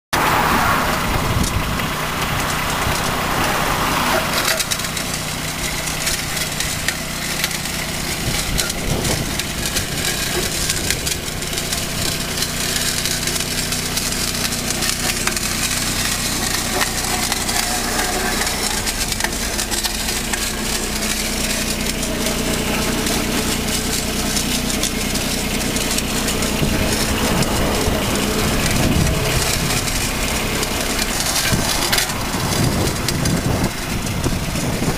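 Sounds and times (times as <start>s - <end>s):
vehicle engine running: 0.1s - 34.9s
edger scraping through turf: 0.2s - 34.9s.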